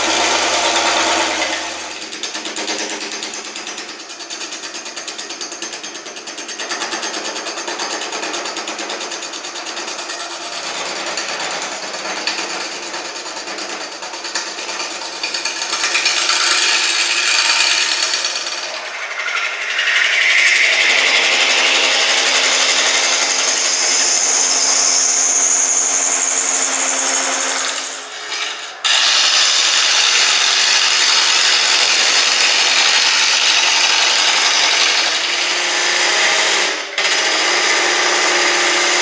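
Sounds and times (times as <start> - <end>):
lathe tool chattering on resin: 0.0 - 39.0.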